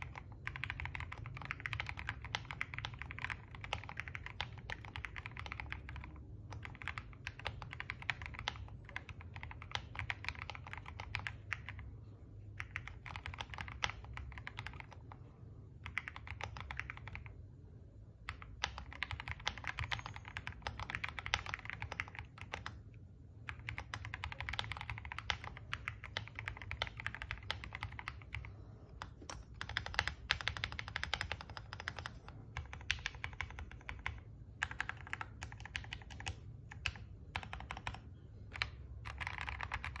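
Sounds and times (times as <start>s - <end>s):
keyboard typing clicks: 0.0s - 11.9s, 12.5s - 15.2s, 15.8s - 17.4s, 18.2s - 40.0s
steady low hum: 0.0s - 40.0s.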